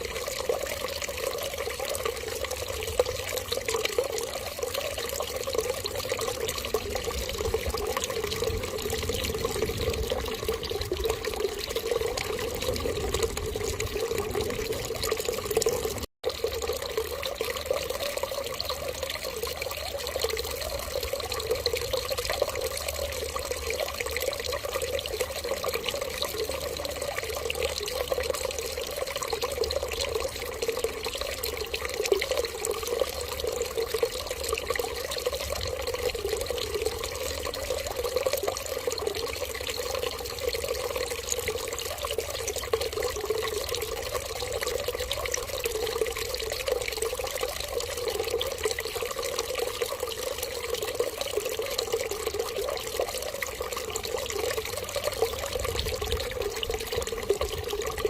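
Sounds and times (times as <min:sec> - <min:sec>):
water running steadily: 0:00.0 - 0:58.0.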